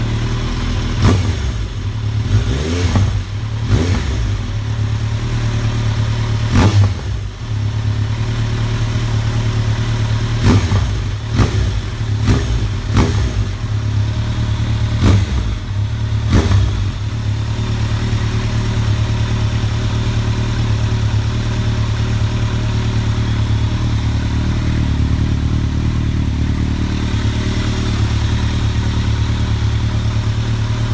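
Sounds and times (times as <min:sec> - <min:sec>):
motorcycle engine revving and idling: 0:00.0 - 0:30.9.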